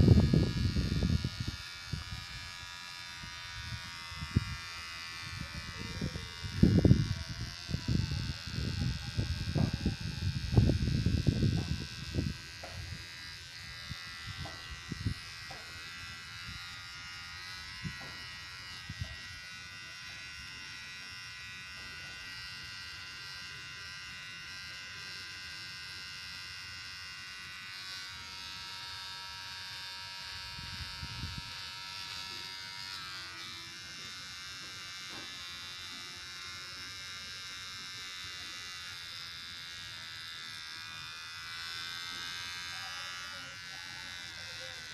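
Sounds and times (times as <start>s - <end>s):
beard trimmer buzzing: 0.0s - 44.9s.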